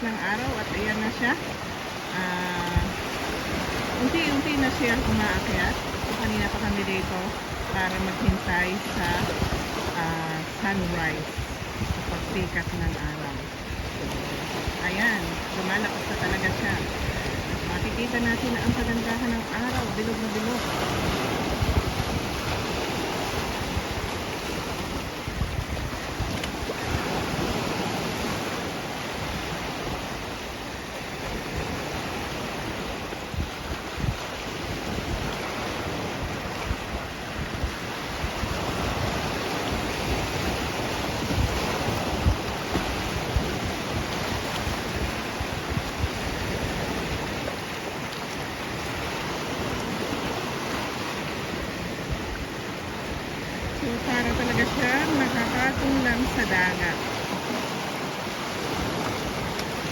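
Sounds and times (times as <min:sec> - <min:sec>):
sea waves washing onto shore: 0:00.0 - 0:59.9
wind buffeting microphone: 0:00.0 - 0:59.9.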